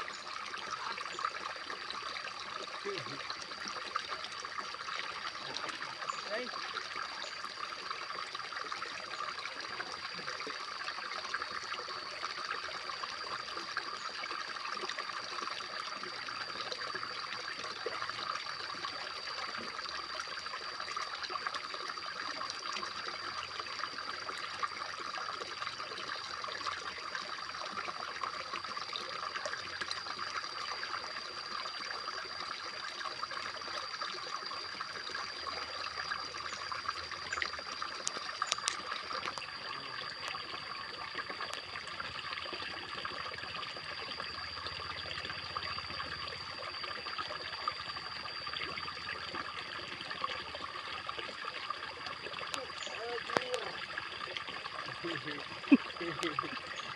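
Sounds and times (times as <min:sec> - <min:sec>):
constant high-pitched tone: 0:00.0 - 0:56.9
water trickling: 0:00.0 - 0:56.9.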